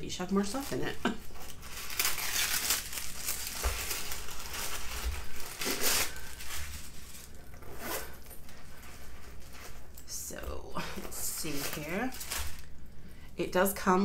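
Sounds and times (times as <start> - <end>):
packing paper crinkling: 0.1 - 13.2.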